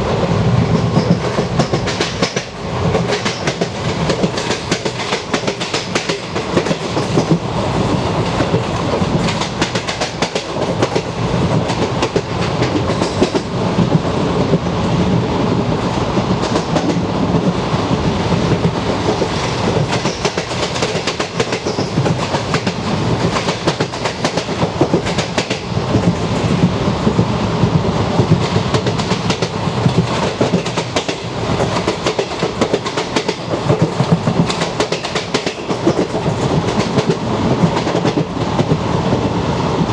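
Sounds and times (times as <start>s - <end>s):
continuous train rumble: 0.0s - 39.9s
train wheels clattering over rail joints: 0.7s - 14.1s, 18.3s - 27.3s, 28.2s - 39.2s.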